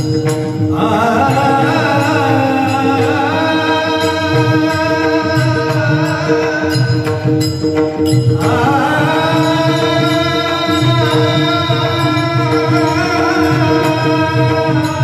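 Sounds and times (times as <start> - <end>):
drum rhythm: 0.0 - 15.0
hand cymbals: 0.0 - 15.0
person singing: 0.0 - 15.0.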